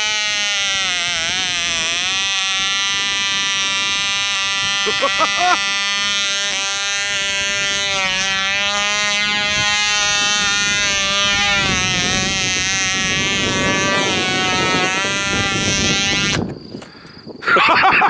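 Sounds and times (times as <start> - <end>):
model engine high-pitched buzz: 0.0 - 16.5.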